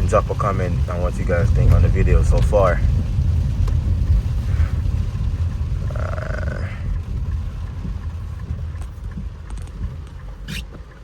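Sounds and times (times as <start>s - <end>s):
car engine rumble: 0.0s - 11.0s
tyres on wet road: 0.0s - 11.0s.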